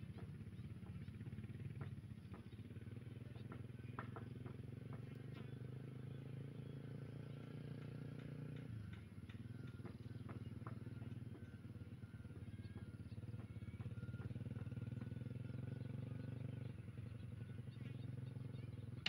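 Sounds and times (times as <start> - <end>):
faint engine hum: 0.0 - 19.0.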